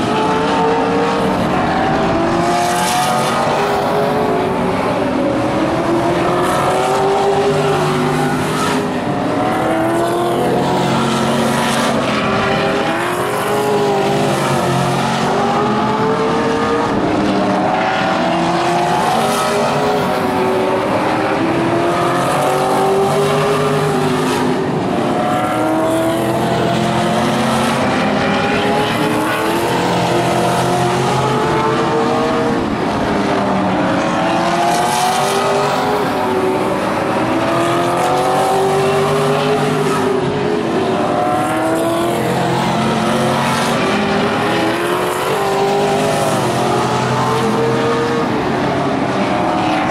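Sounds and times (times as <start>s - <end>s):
stock car engines racing: 0.0s - 49.9s.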